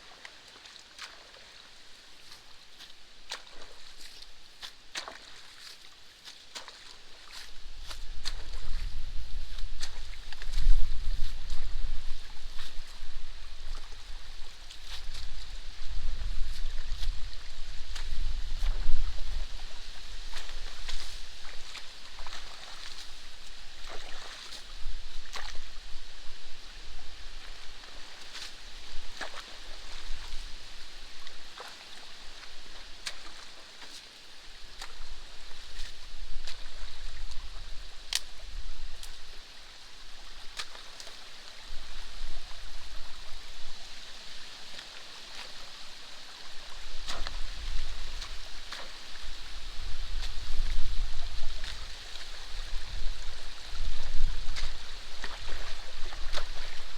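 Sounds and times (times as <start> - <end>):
water running along a canal: 0.0 - 56.9.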